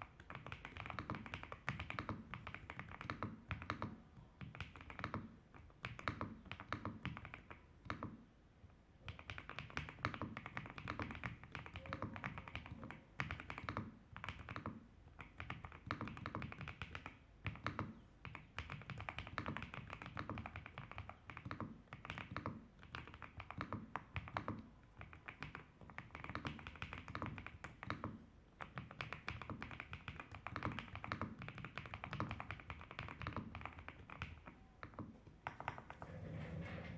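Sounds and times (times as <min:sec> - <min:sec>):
typing on mechanical keyboard: 0:00.0 - 0:08.2, 0:09.0 - 0:36.9.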